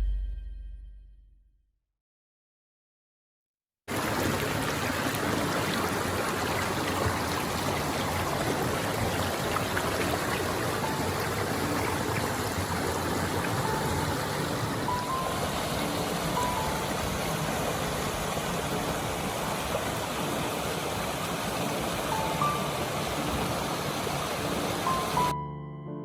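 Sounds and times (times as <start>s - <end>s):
stream rushing: 3.9s - 25.4s.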